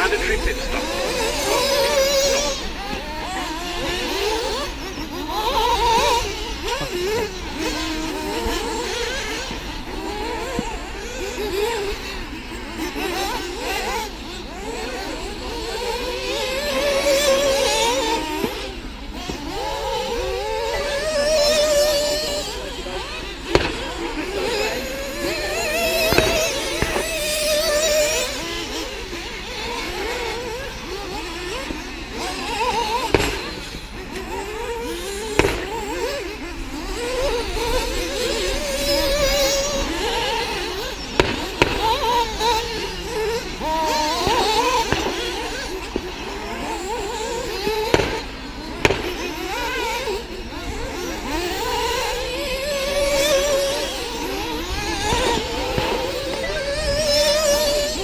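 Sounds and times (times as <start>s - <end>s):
model car motors whining: 0.0s - 58.0s.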